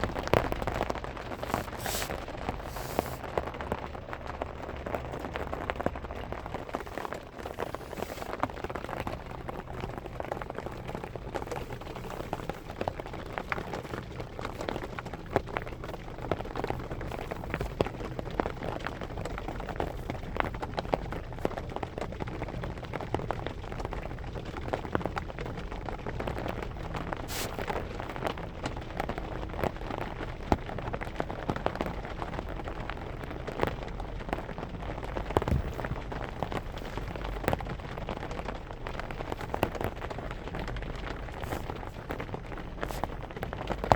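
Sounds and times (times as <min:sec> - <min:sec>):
rain on a car roof: 0:00.0 - 0:43.9.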